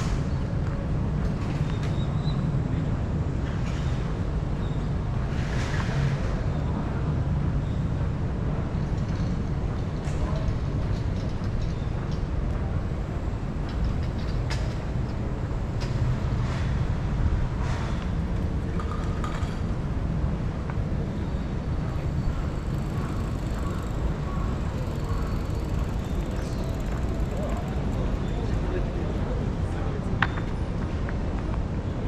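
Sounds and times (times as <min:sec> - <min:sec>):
low rumble of traffic: 0:00.0 - 0:32.0.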